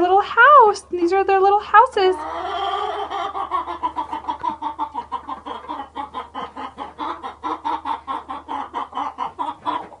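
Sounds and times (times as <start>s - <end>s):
hens clucking: 0.0s - 10.0s.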